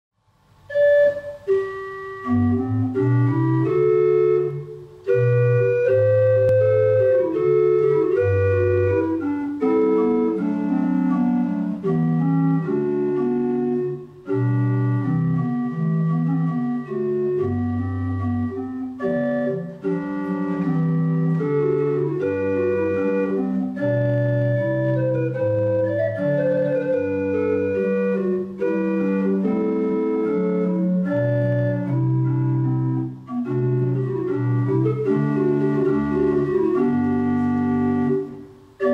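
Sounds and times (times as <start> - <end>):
church pipe organ chords: 0.7 - 38.9.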